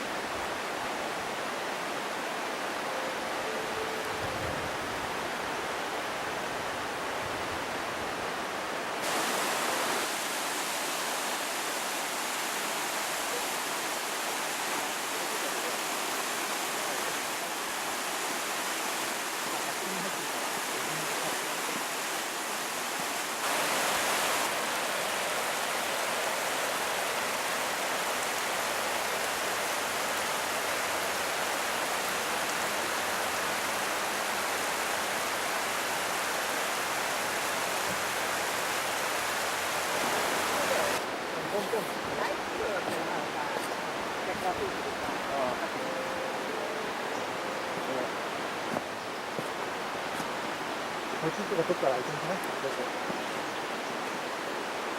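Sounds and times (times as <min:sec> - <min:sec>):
waterfall rushing hiss: 0:00.0 - 0:54.9.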